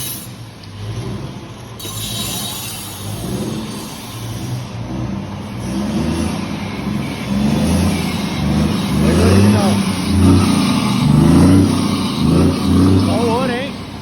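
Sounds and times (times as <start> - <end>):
truck diesel engine revving: 0.0 - 14.0.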